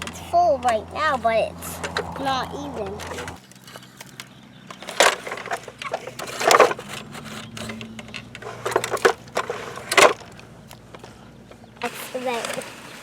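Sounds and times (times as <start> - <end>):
toy trucks scraping and rattling: 0.0 - 13.0.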